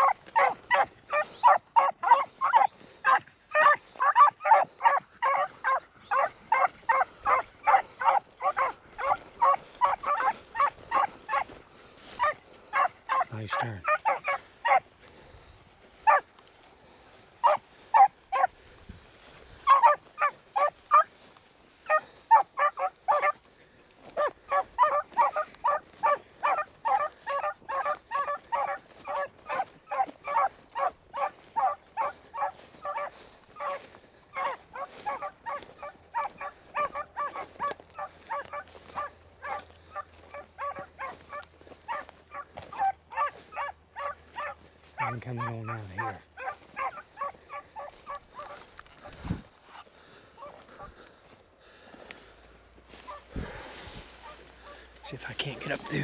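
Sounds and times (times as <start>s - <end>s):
beagles baying: 0.0s - 56.0s.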